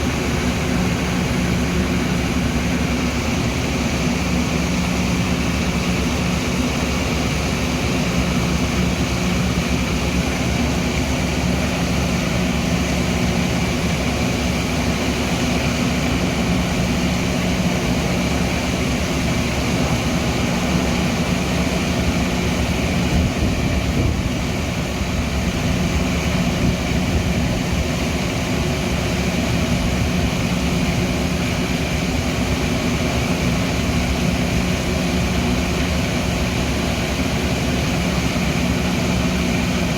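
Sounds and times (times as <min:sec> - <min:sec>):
commuter train drone: 0:00.0 - 0:39.9.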